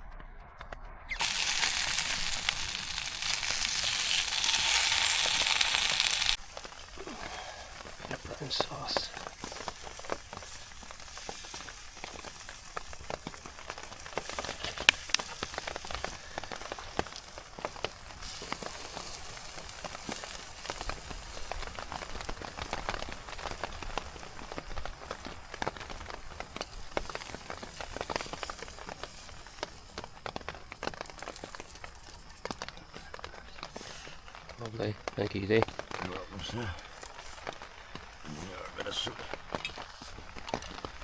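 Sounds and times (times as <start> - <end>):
rain falling: 1.1 - 41.0
ticks of single raindrops: 1.2 - 41.0.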